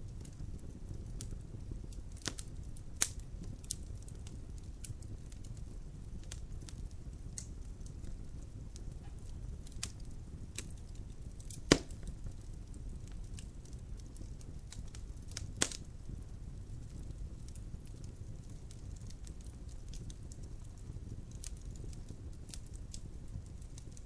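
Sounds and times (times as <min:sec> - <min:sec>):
wood fire crackling: 0:00.0 - 0:24.0
loud pops from fire: 0:00.1 - 0:24.0.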